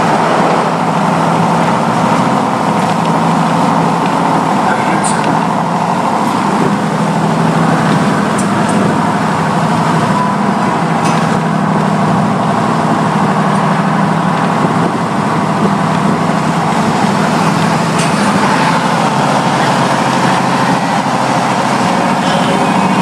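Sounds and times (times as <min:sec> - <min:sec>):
vehicle cruising at highway speed: 0:00.0 - 0:23.0.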